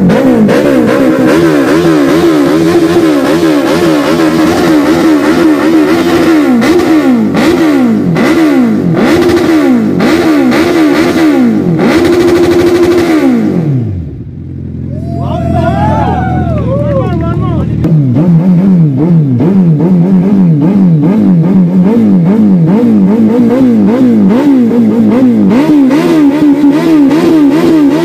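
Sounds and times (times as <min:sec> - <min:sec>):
motorcycle engine revving: 0:00.0 - 0:14.9, 0:17.2 - 0:28.0.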